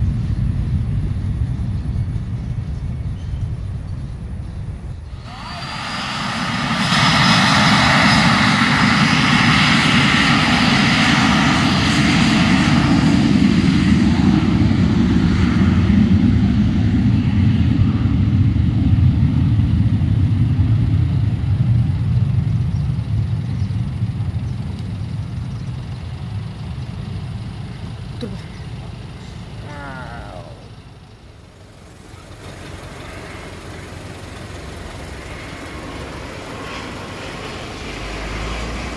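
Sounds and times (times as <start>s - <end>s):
high engine whine: 0.0s - 38.9s
jet engines roaring: 0.0s - 38.9s.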